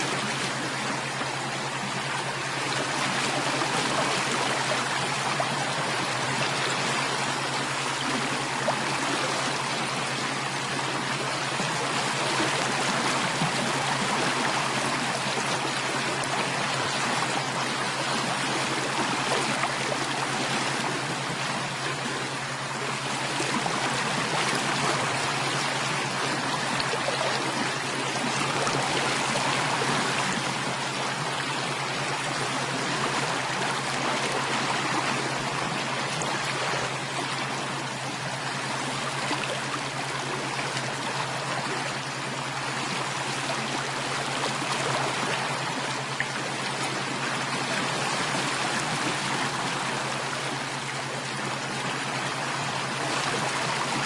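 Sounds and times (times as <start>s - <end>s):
steady low hum: 0.0s - 54.0s
stream water rushing: 0.0s - 54.0s.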